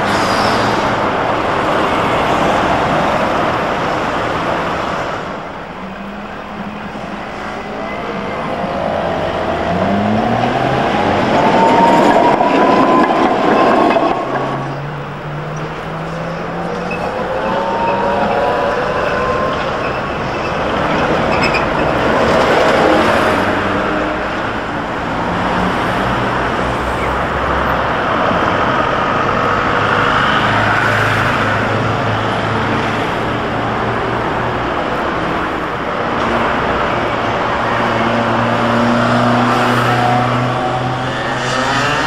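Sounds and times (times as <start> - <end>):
bus passing: 0.0 - 42.0.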